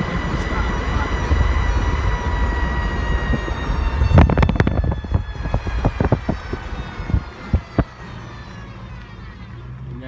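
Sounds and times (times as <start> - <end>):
high-pitched drive whine: 0.0 - 10.0
road and engine rumble: 0.0 - 10.0.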